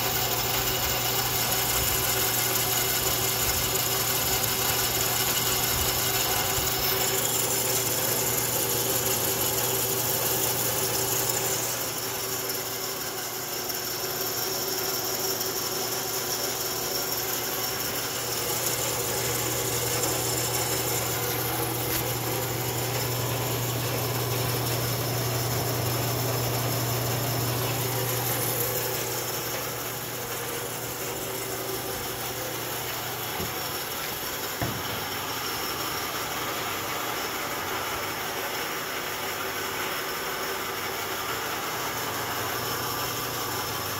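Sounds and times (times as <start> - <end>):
bandsaw running: 0.0 - 43.9.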